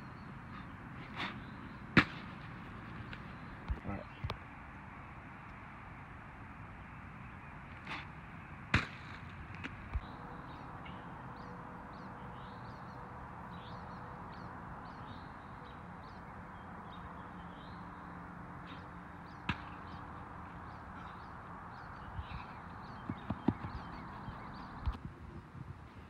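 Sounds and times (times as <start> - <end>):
birds chirping: 0.0 - 26.0
outdoor background hum: 0.0 - 26.0.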